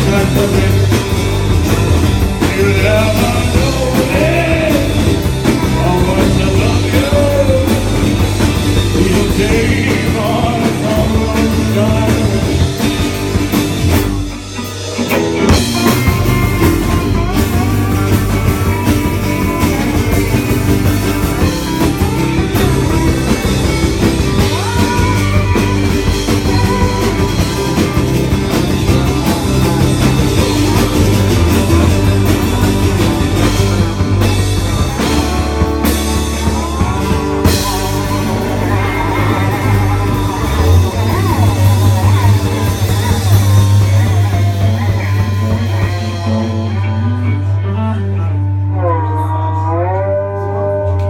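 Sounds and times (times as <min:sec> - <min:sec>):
country rock band playing: 0:00.0 - 0:51.0.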